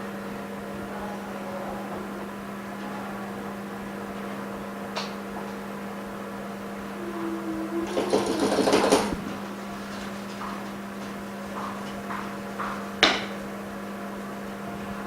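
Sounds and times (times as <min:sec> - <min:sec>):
electrical machine hum: 0:00.0 - 0:15.0.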